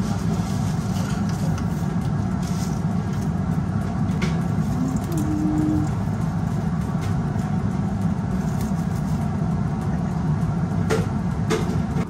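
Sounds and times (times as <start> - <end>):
water boiling in a pot: 0.0 - 12.0.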